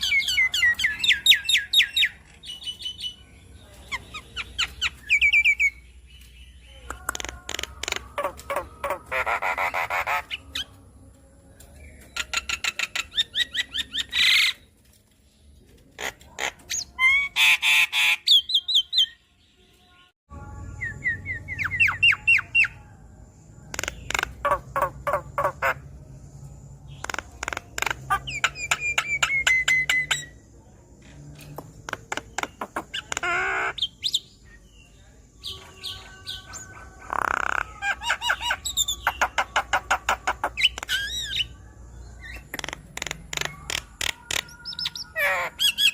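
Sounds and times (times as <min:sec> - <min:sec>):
bird singing with harsh rattles: 0:00.0 - 0:19.2, 0:20.4 - 0:45.9.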